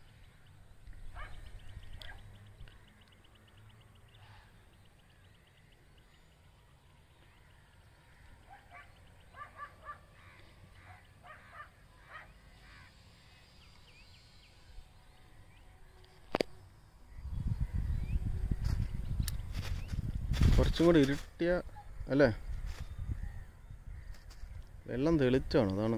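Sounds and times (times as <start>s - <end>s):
birds calling faintly: 0.0s - 25.9s.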